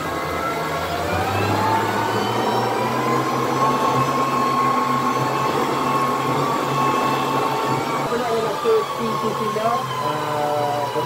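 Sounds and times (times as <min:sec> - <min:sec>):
boat engine whine: 0:00.0 - 0:11.0.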